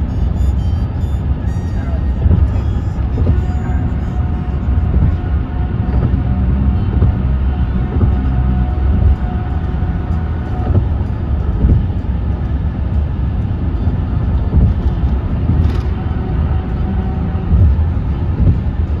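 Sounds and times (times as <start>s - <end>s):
car road noise rumble: 0.0s - 19.0s
faint hum: 0.0s - 19.0s.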